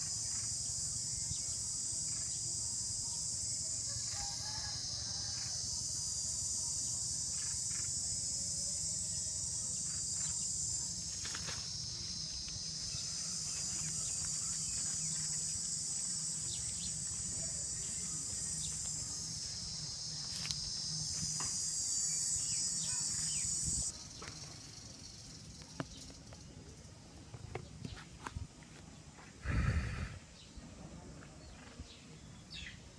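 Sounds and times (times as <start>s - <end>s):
insects chirping chorus: 0.0s - 32.9s.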